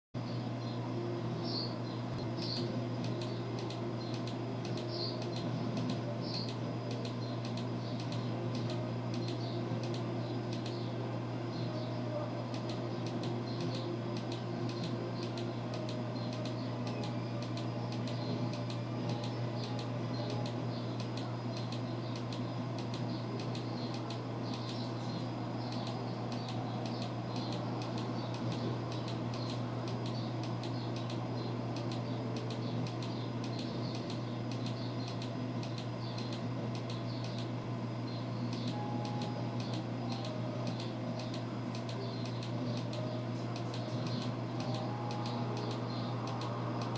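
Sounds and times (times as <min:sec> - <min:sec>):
low hum: 0:00.2 - 0:46.9
faint ticking: 0:02.2 - 0:10.8, 0:12.4 - 0:46.9.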